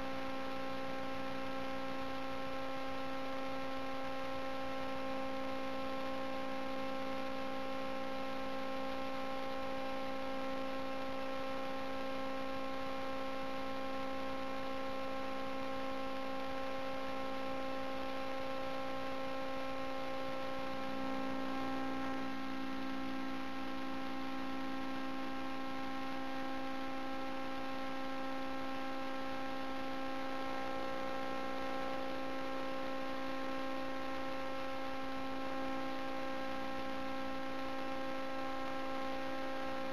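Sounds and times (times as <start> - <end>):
steady multi-tone hum: 0.0 - 39.9.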